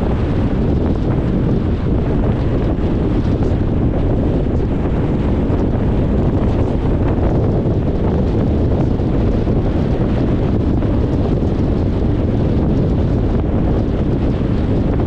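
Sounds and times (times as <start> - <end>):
car tyre and wind noise: 0.0 - 15.0
wind buffeting microphone: 0.0 - 15.0.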